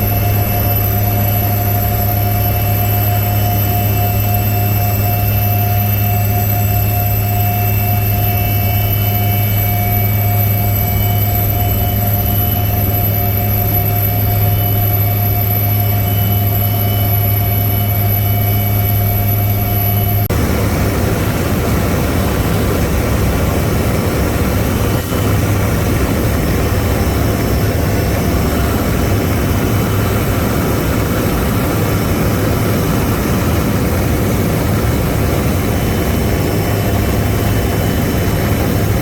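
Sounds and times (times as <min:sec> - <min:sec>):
helicopter engine and rotor: 0:00.0 - 0:39.0.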